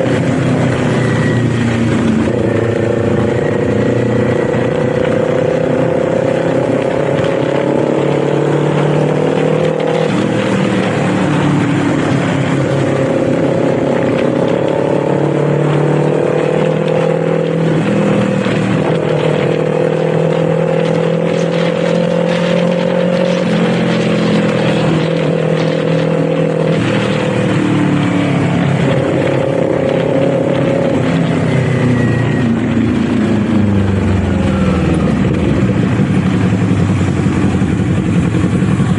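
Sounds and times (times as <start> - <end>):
motorcycle engine revving while riding: 0.0 - 38.9.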